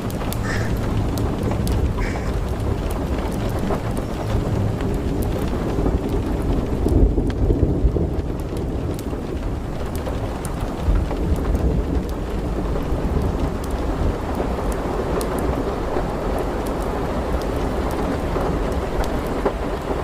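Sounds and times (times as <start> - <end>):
strong wind gusting through trees: 0.0 - 20.0.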